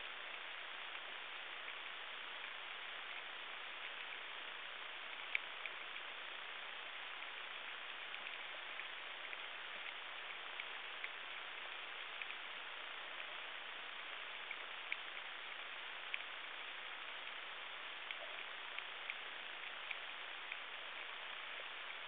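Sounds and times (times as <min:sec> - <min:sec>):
sharp underwater clicks: 0:01.6 - 0:22.0.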